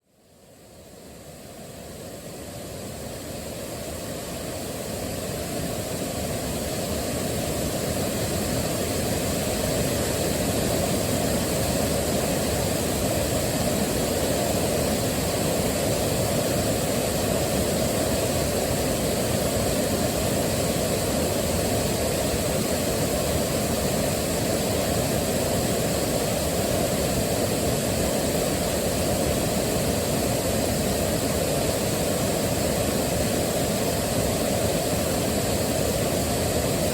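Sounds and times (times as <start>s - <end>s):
waterfall rushing: 3.9s - 36.9s.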